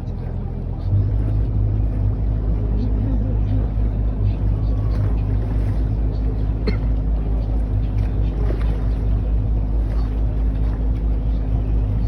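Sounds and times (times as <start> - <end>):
boat engine humming: 0.0 - 12.0
steady drone: 0.0 - 12.0.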